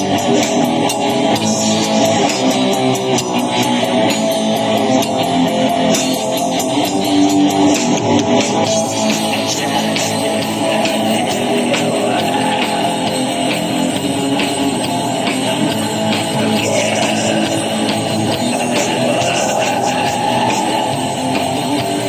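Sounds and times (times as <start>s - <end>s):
drum and cymbal hits: 0.0s - 22.0s
rock band playing: 0.0s - 22.0s.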